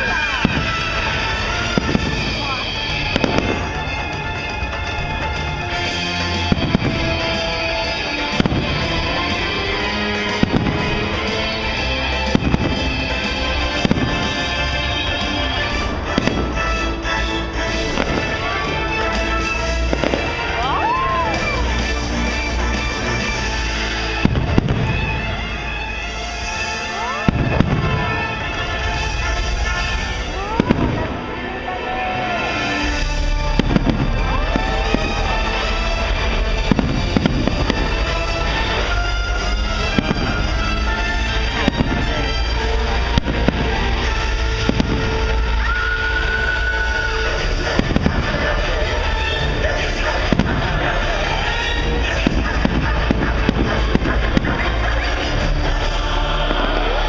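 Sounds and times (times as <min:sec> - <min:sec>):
fireworks bursting with bangs: 0:00.0 - 0:57.0
show music: 0:00.0 - 0:57.0.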